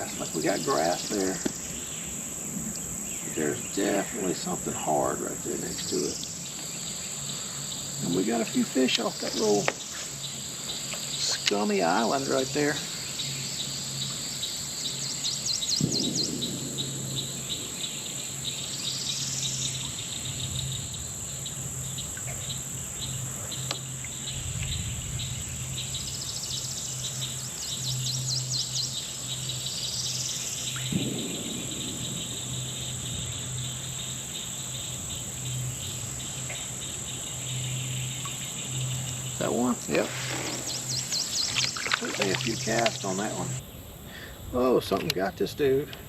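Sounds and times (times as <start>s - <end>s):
birds trilling: 0.0s - 44.9s
insects droning: 0.0s - 46.0s.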